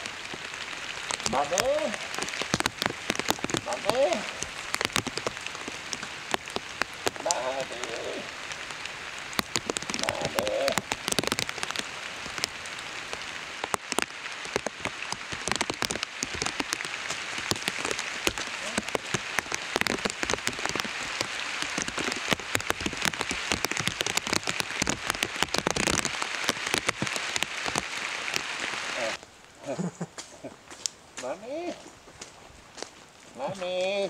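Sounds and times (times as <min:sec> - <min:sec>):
raindrop taps: 0:00.0 - 0:29.3
steady rain: 0:00.0 - 0:34.0.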